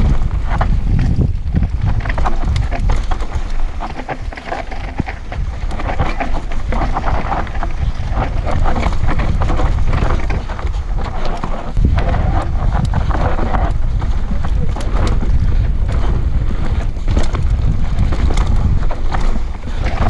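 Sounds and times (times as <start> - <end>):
bike chain and frame rattling: 0.0 - 20.0
tyres on dirt: 0.0 - 20.0
wind buffeting microphone: 0.0 - 20.0.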